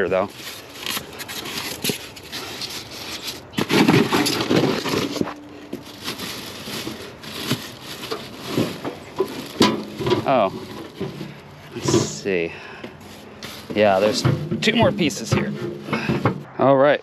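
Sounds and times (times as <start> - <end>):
cardboard and plastic wrap rustling: 0.0 - 16.5.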